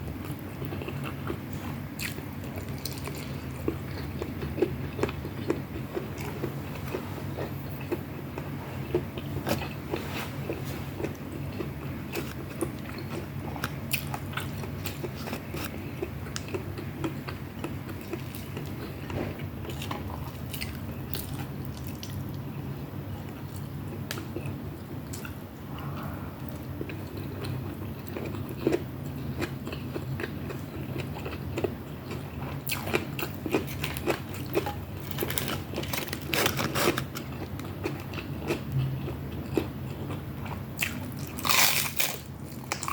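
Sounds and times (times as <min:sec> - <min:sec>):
person chewing crunchy food: 0:00.0 - 0:22.4, 0:23.3 - 0:42.9
steady low hum: 0:00.0 - 0:42.9.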